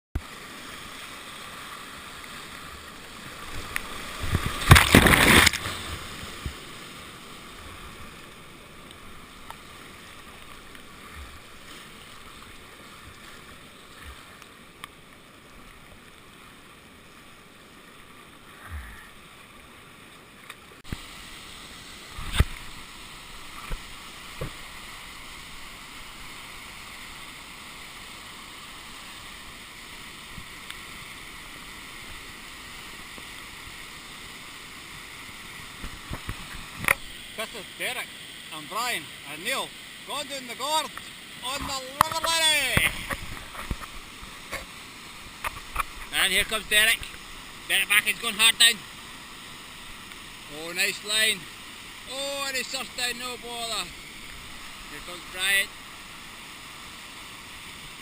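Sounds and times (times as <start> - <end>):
fast river water rushing: 0.2 - 58.0.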